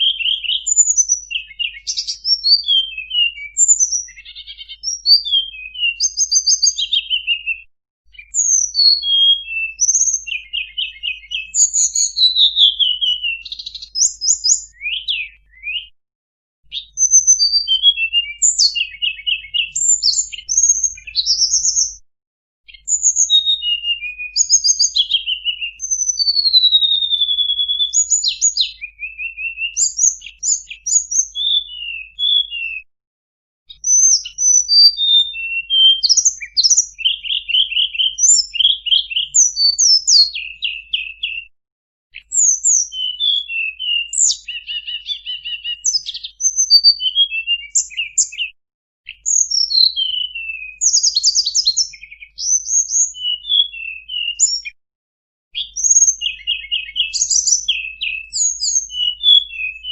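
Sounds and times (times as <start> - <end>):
bird singing chirps and trills: 0.0 - 15.9, 16.7 - 22.0, 22.7 - 32.8, 33.7 - 41.4, 42.2 - 48.5, 49.1 - 54.7, 55.6 - 59.9.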